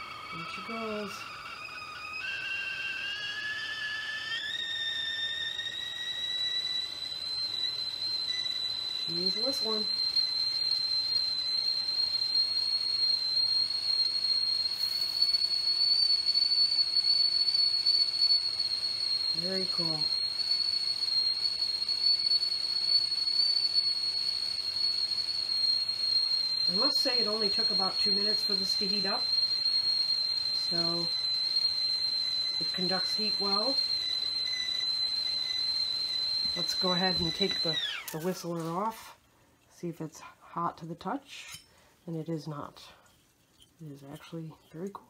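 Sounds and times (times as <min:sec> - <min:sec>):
tea kettle whistling: 0:00.0 - 0:45.0.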